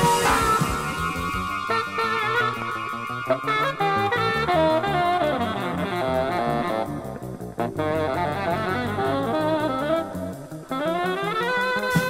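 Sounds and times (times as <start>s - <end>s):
electric bass: 0.0s - 12.0s
saxophone melody: 0.0s - 12.0s.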